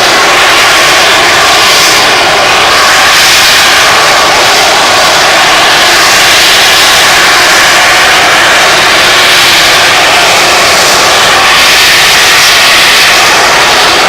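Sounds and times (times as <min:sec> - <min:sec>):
jet engine roaring with hiss: 0:00.0 - 0:14.0.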